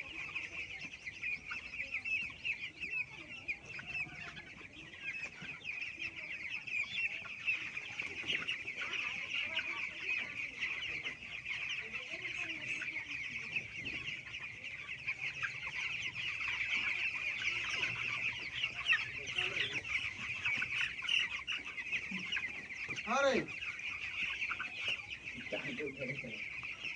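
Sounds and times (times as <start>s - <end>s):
chickens clucking: 0.0s - 26.9s
chickens peeping: 0.0s - 26.9s.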